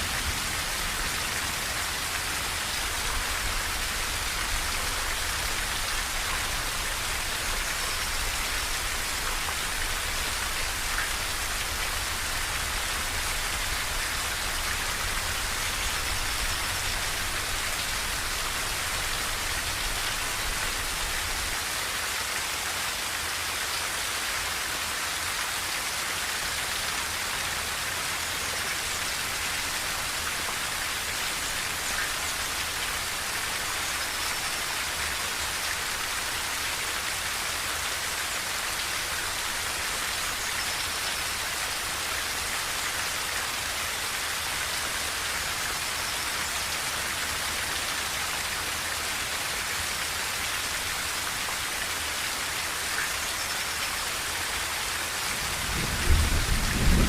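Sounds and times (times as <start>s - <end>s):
rain on a tin roof: 0.0s - 57.0s.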